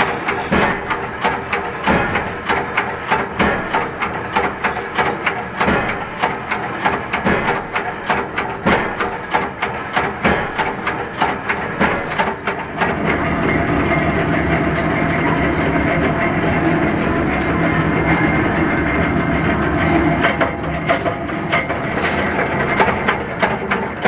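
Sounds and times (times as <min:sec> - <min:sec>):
steady mechanical noise: 0:00.0 - 0:24.0.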